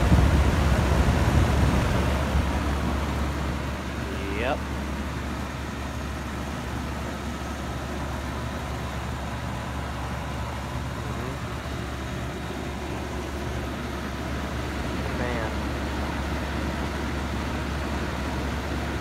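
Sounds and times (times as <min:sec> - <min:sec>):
air conditioner hum: 0:00.0 - 0:19.0
condenser fan rushing: 0:00.0 - 0:19.0.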